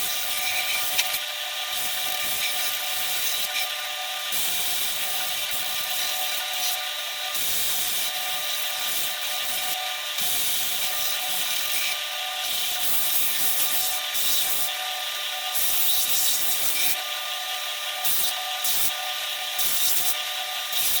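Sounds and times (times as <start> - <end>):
power sander grinding wood: 0.0 - 21.0.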